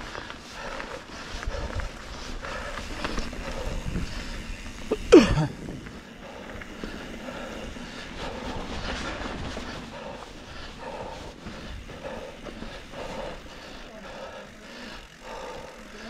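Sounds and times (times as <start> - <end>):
bike tyres rumbling over dirt: 0.0 - 16.0.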